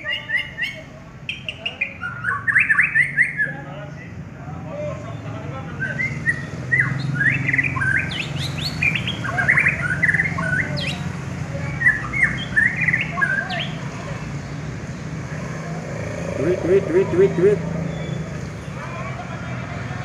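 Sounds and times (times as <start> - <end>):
songbird chirps and trills: 0.0 - 4.2, 4.9 - 18.9.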